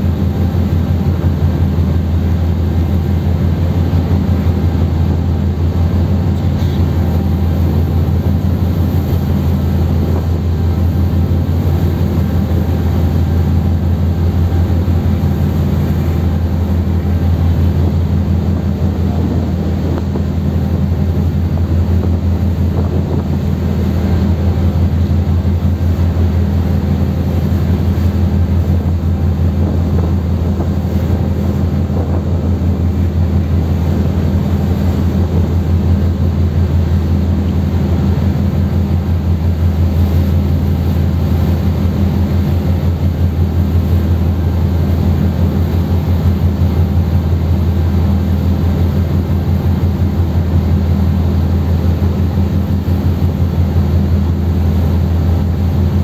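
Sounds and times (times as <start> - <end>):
faint wind and water hiss: 0.0 - 56.0
ship diesel engines droning: 0.0 - 56.0.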